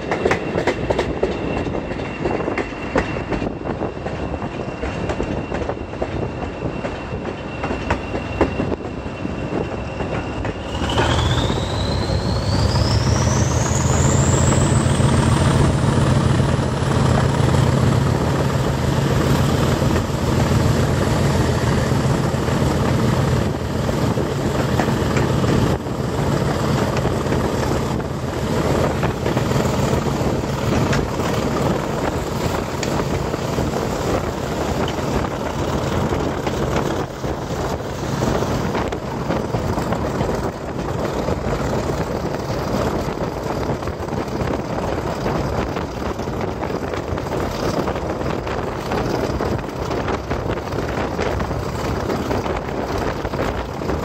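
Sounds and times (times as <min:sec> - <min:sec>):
diesel locomotive engine droning: 0:00.0 - 0:54.0
wind buffeting microphone: 0:00.0 - 0:54.0.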